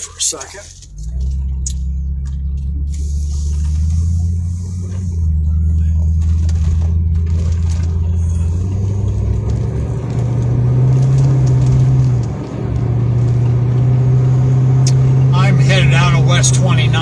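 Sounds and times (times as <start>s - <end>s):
car engine: 0.0s - 17.0s
road noise inside car: 0.0s - 17.0s.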